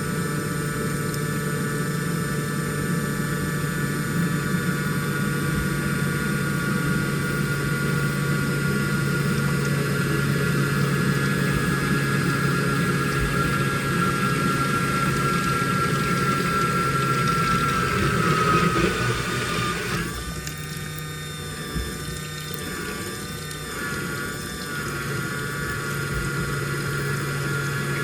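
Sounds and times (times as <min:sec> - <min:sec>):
washing machine hum: 0:00.0 - 0:28.0
washing machine motor whine: 0:00.0 - 0:28.0.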